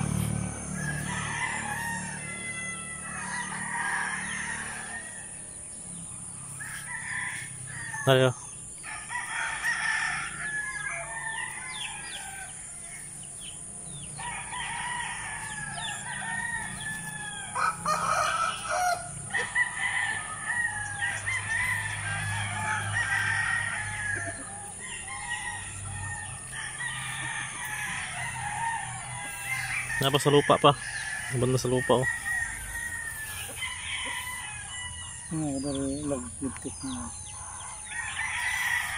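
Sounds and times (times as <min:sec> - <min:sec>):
roosters crowing: 0:00.0 - 0:38.9.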